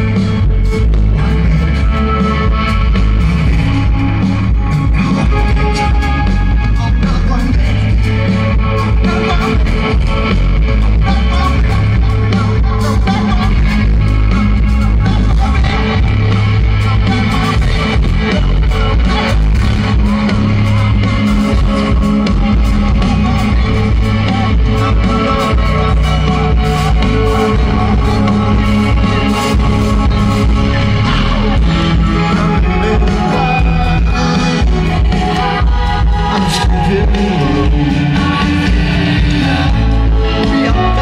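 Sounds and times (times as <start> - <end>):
drums: 0.0 - 41.0
electric guitar: 0.0 - 41.0
live rock band playing: 0.0 - 41.0
man singing into a microphone: 0.0 - 41.0.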